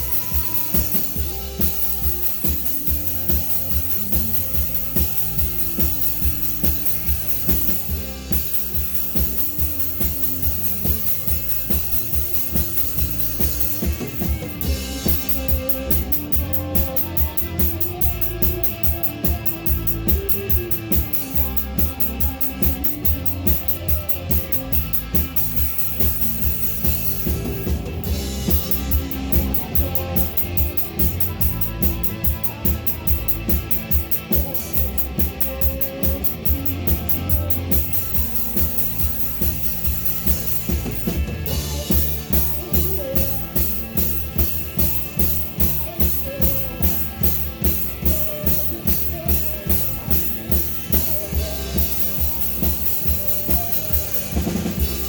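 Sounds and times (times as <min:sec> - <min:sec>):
drum kit driving beat: 0:00.0 - 0:55.0
live rock band playing: 0:00.0 - 0:55.0.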